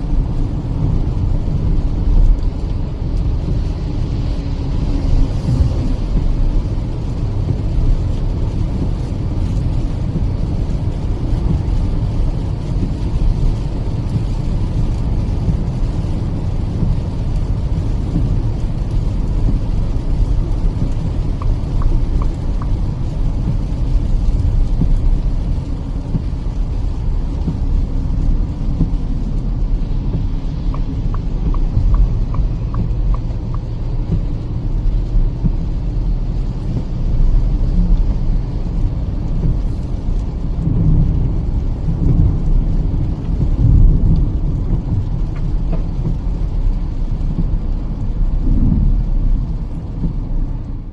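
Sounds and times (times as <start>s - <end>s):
tyres rumbling on wet road: 0.0s - 50.9s.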